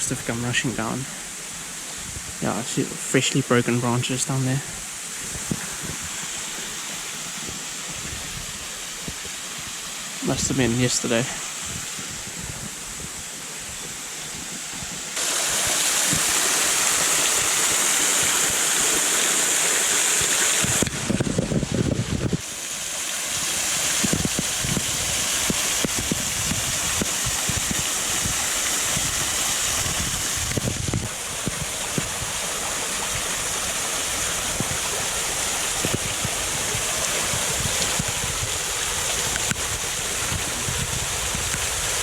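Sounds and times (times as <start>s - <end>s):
waterfall rushing: 0.0s - 42.0s
low water splashes: 4.5s - 42.0s.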